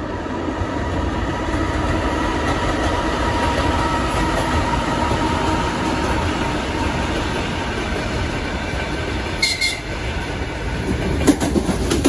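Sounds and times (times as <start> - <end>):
locomotive whine: 0.0 - 11.2
train wheels rumbling on rails: 0.0 - 12.0.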